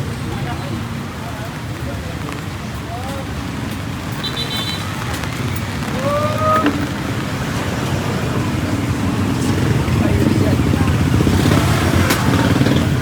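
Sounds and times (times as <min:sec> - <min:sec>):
passing vehicles rumbling: 0:00.0 - 0:13.0
rain: 0:00.0 - 0:13.0.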